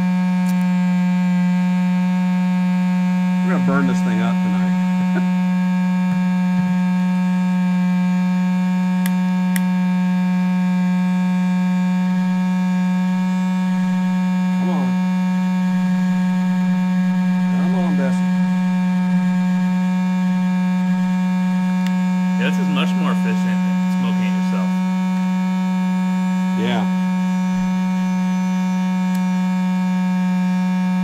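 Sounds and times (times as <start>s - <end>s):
air pump humming: 0.0s - 31.0s.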